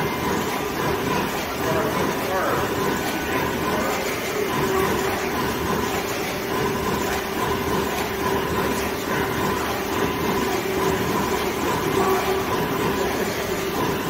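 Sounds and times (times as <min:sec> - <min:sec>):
industrial machinery hum: 0:00.0 - 0:14.0.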